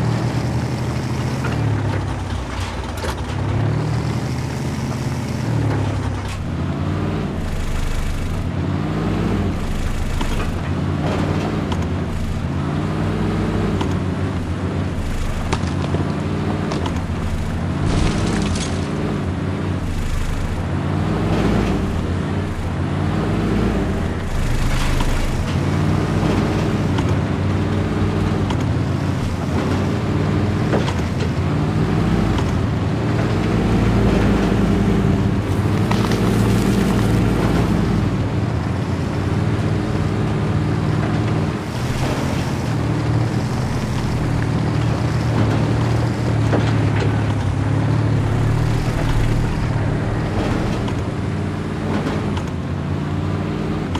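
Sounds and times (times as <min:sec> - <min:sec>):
rc truck motors revving: 0:03.0 - 0:52.6.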